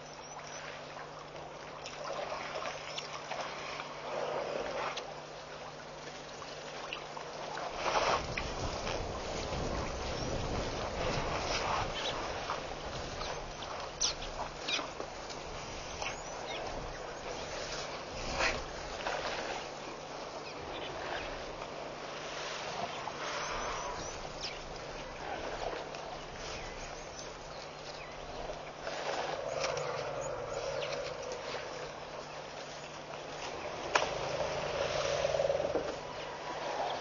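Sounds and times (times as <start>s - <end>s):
constant low hum: 0.0s - 37.0s.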